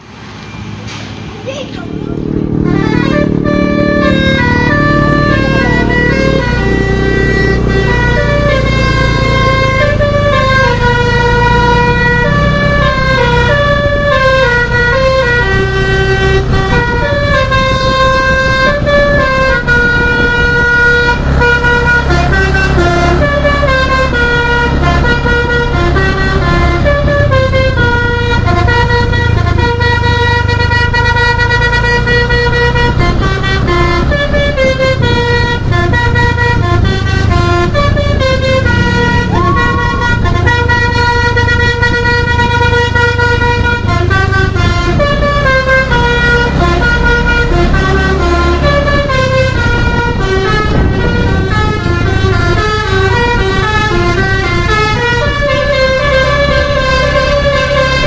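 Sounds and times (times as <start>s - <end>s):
bus engine running: 0.0s - 58.0s
bus musical horn melody: 1.6s - 58.0s.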